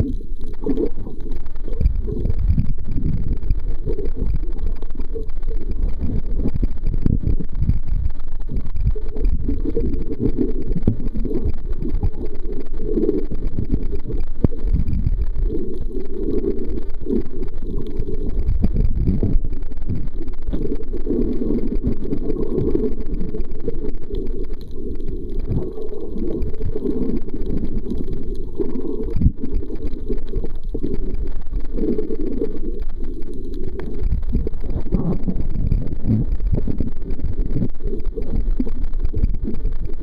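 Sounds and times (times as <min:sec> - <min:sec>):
faint clicks: 0:00.0 - 0:40.0
muffled underwater noise: 0:00.0 - 0:40.0.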